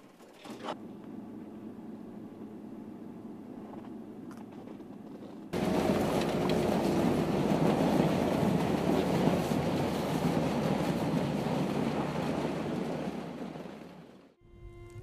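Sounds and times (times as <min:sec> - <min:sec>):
pickup truck driving through snow: 0:00.6 - 0:14.4
low steady rumble: 0:00.7 - 0:15.0.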